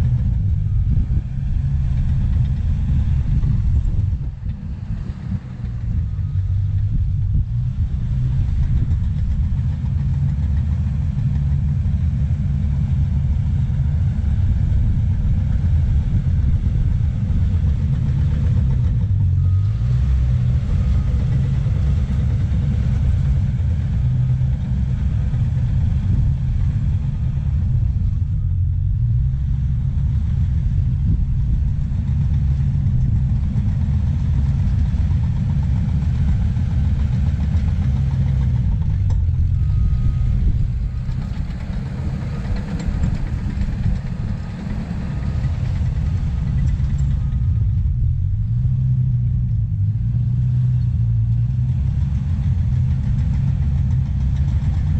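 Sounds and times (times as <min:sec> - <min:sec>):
bulldozer diesel engine rumbling: 0:00.0 - 0:54.9.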